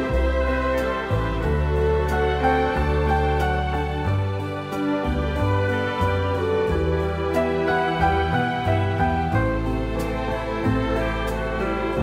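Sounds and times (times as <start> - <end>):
slow gentle background music: 0.0 - 12.0.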